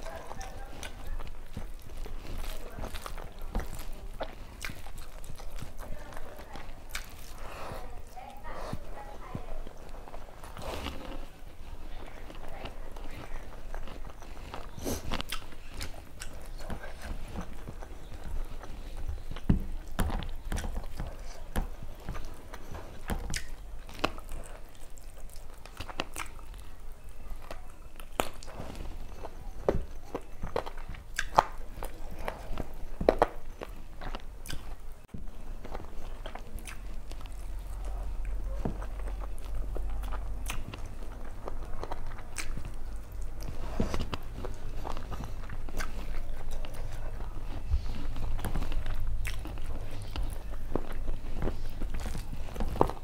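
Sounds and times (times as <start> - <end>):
person chewing and biting: 0.0 - 9.0, 9.6 - 53.0
food crunching: 0.0 - 53.0.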